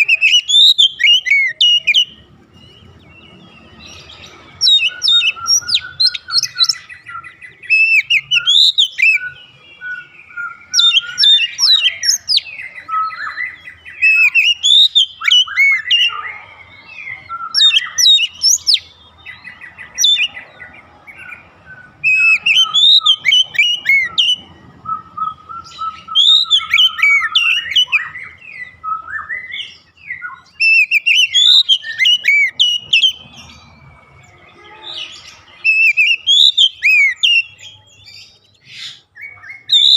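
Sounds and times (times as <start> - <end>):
bird singing whistled phrases: 0.0 - 2.2, 4.0 - 20.4, 21.2 - 33.2, 34.8 - 39.9.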